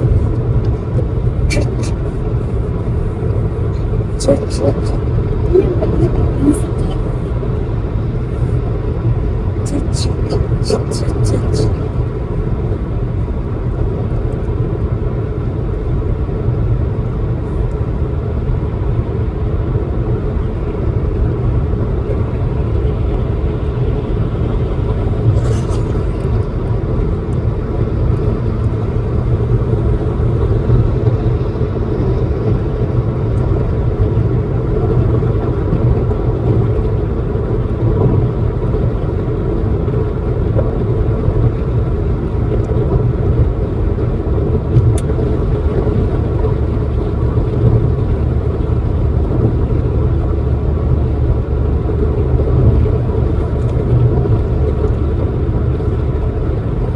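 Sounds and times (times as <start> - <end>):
car interior road rumble: 0.0 - 56.9.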